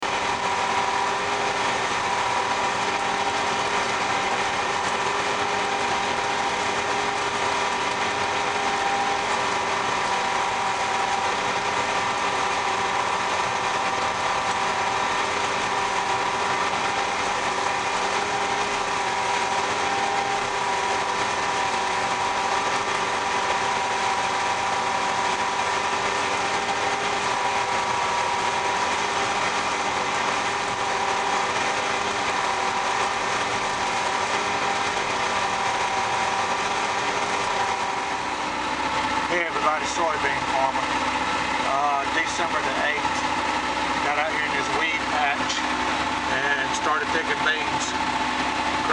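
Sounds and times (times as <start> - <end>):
combine engine drone: 0.0 - 48.9
high whine: 0.0 - 48.9.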